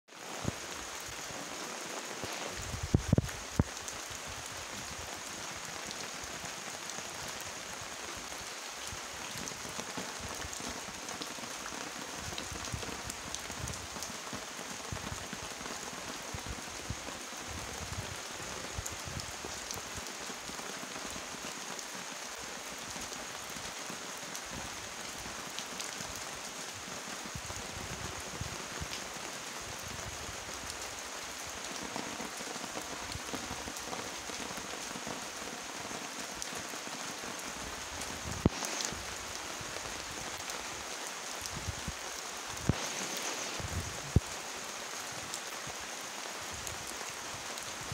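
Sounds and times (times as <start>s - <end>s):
rain falling on leaves: 0.1s - 47.9s.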